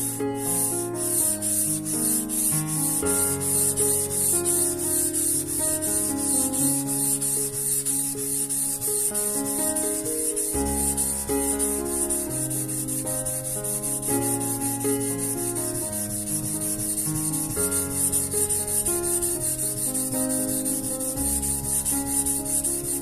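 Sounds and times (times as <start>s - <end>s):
background music: 0.0s - 23.0s
blade rubbing on whetstone: 0.4s - 23.0s.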